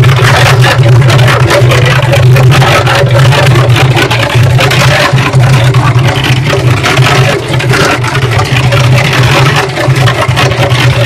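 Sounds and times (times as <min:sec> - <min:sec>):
mixer motor humming: 0:00.0 - 0:11.0
water sloshing in a drum: 0:00.0 - 0:11.0.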